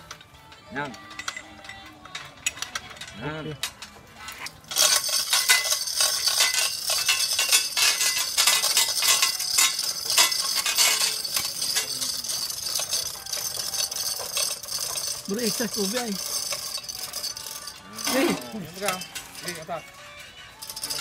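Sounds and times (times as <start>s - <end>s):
metal chains clicking and rattling: 0.0s - 21.0s.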